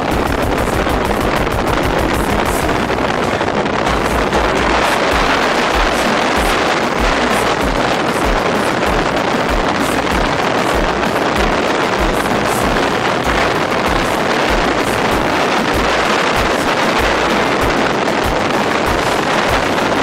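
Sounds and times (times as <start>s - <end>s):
low thumps: 0.0s - 20.0s
wind buffeting microphone: 0.0s - 20.0s.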